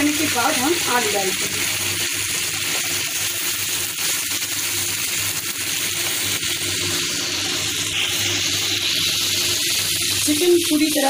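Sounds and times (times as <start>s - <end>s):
curry sizzling in a pan: 0.0s - 11.0s.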